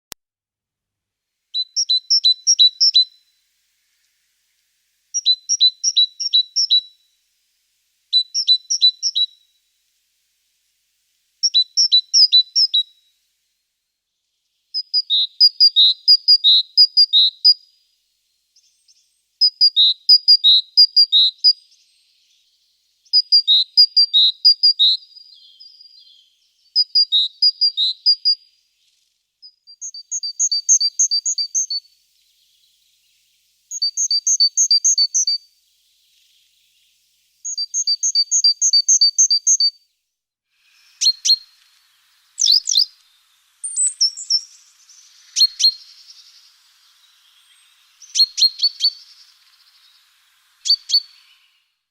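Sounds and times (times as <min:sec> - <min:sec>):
songbird singing: 0:01.5 - 0:13.3, 0:13.9 - 0:40.0, 0:40.6 - 0:51.9.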